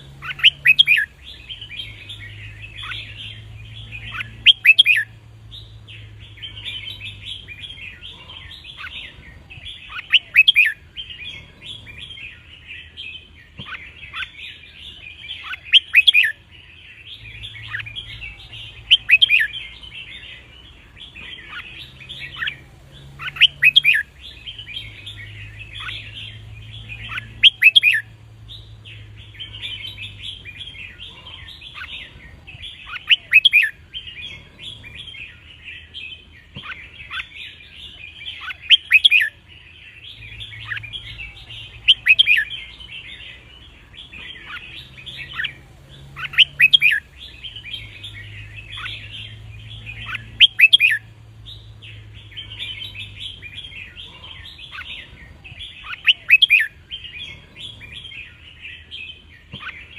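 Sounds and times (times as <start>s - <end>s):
bird song phrases: 0.0s - 59.9s
birds twittering chatter: 0.0s - 59.9s.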